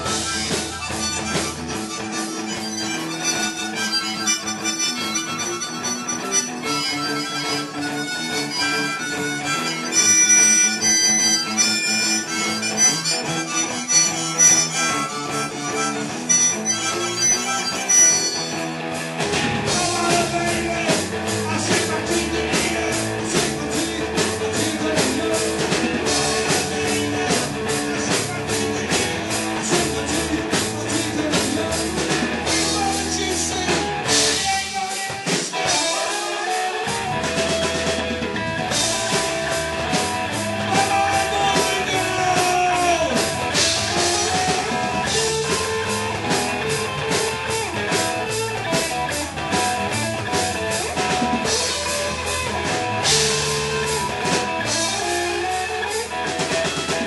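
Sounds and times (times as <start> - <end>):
bass guitar: 0.0 - 57.0
drum kit beat: 0.0 - 57.0
electric guitar: 0.0 - 57.0
rock band playing: 0.0 - 57.0.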